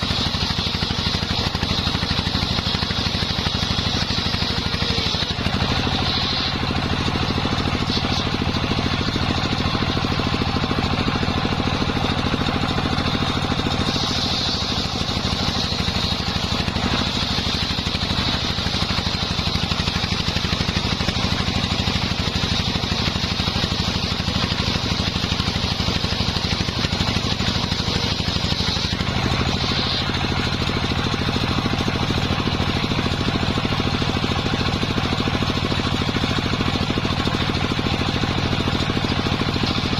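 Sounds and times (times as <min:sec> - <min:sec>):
engine drone: 0:00.0 - 0:39.9
saw blade whine cutting wood: 0:00.0 - 0:39.9.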